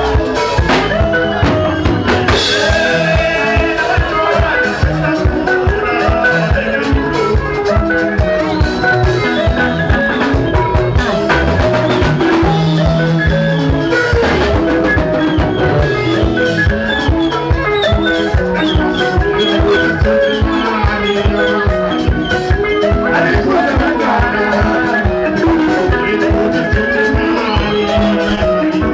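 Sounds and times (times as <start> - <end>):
drum kit beat: 0.0 - 28.9
electric bass: 0.0 - 28.9
picked electric guitar: 0.0 - 28.9.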